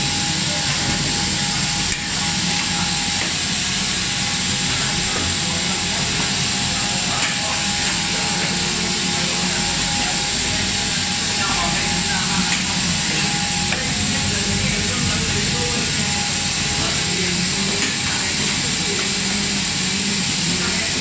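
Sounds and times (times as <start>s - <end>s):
faint high whine: 0.0s - 21.0s
machine noise: 0.0s - 21.0s.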